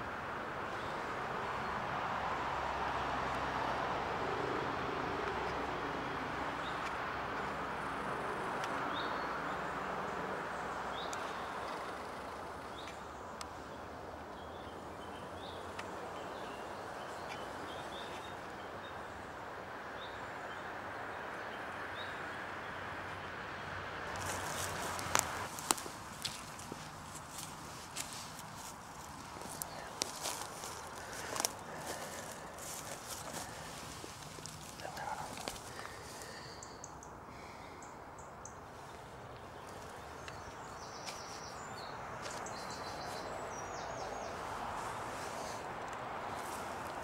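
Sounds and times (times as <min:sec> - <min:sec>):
outdoor background rumble: 0:00.0 - 0:47.0.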